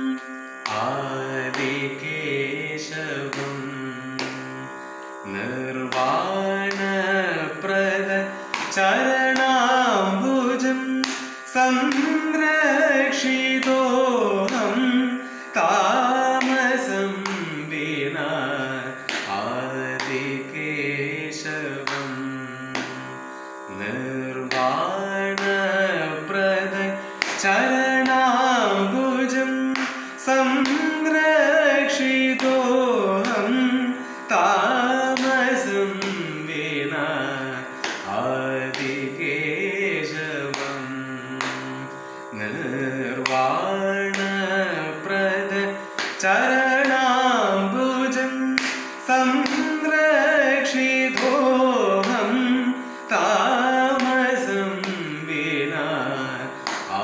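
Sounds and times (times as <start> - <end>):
man singing: 0.0 - 57.0
steady drone: 0.0 - 57.0.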